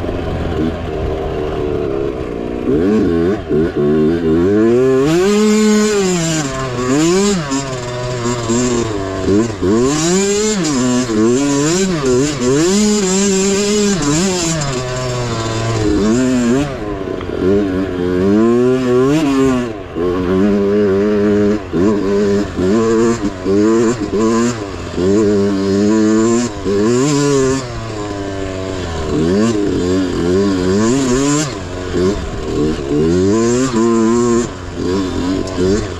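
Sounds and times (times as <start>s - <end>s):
small motorbike engine revving: 0.0s - 35.9s.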